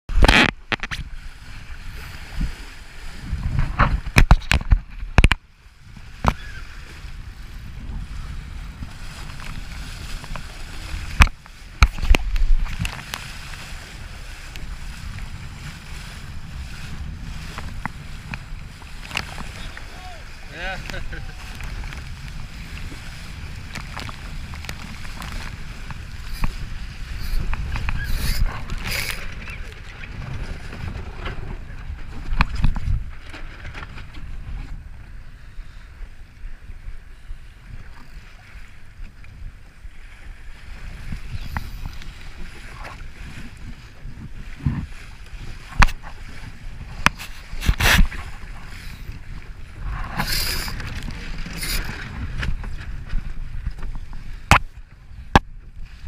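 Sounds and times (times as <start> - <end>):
wind buffeting microphone: 0.1 - 56.0.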